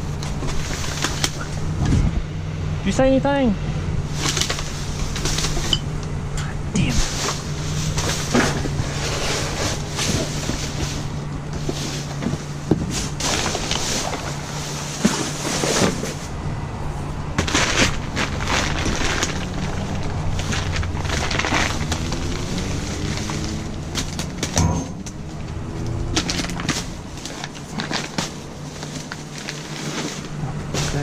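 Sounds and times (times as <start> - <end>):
low motor hum: 0.0 - 31.0
things being handled: 4.1 - 6.0, 6.9 - 16.4, 17.4 - 31.0.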